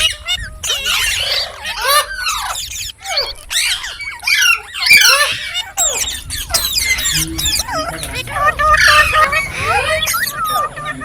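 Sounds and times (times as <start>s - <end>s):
parrot squawking and chirping: 0.0s - 11.0s.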